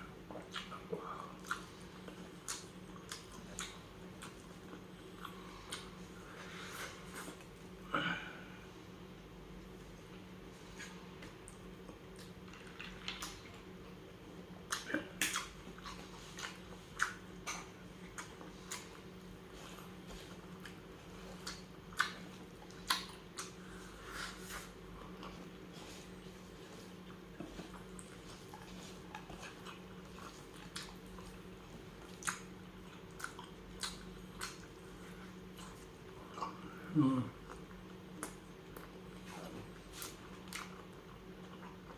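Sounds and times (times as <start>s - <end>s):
steady low hum: 0.0s - 41.9s
chewing and mouth smacks: 0.3s - 6.0s, 10.7s - 14.0s, 14.6s - 36.7s, 37.4s - 41.9s.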